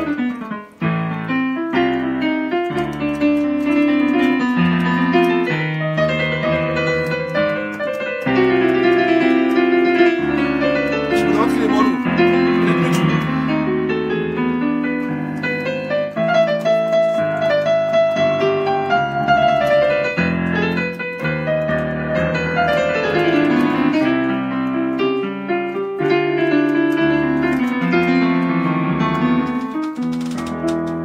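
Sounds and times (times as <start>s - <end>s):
digital piano melody over chords: 0.0s - 31.0s.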